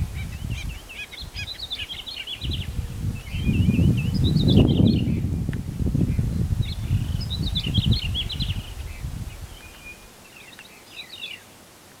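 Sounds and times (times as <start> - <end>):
low wind rumble: 0.0 - 10.2
songbird singing: 0.0 - 12.0.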